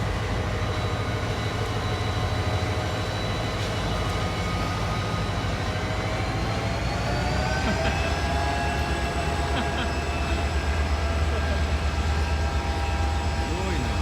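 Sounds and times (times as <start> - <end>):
train engine tone: 0.0 - 14.0
train rumbling by: 0.0 - 14.0.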